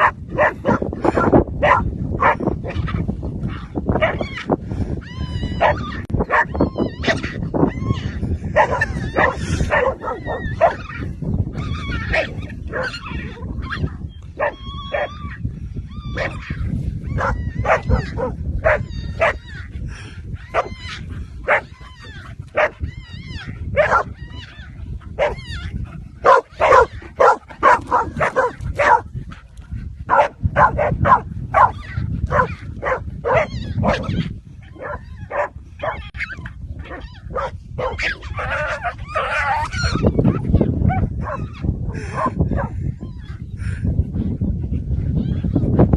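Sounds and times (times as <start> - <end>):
animal yipping and squealing: 3.6 - 29.0, 30.1 - 43.4.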